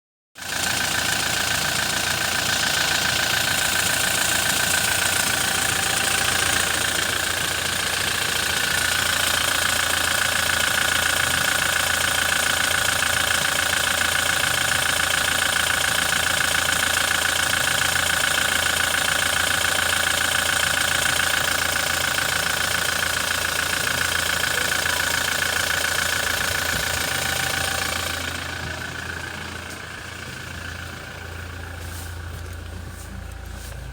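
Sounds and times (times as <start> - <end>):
diesel engine idling: 0.4 - 33.9.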